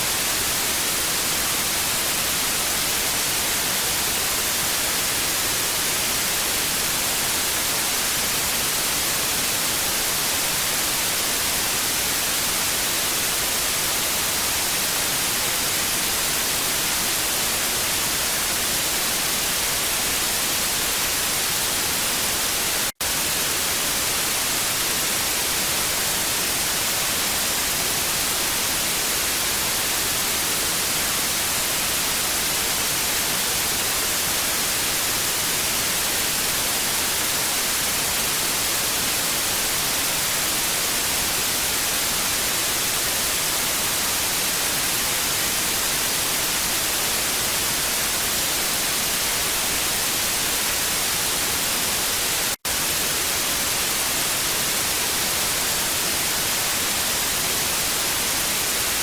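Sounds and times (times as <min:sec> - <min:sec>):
hissing tv static: 0:00.0 - 0:59.0.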